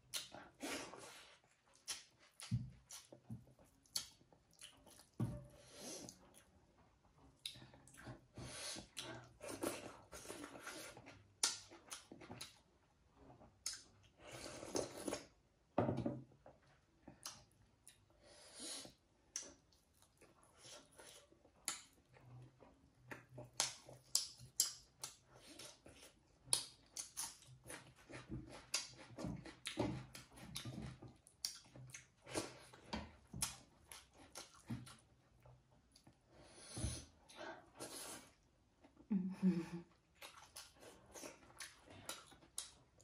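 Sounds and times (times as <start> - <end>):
person chewing with wet smacks: 0.0 - 5.2, 6.0 - 12.8, 13.4 - 15.4, 16.5 - 18.1, 19.2 - 36.3, 39.9 - 43.0.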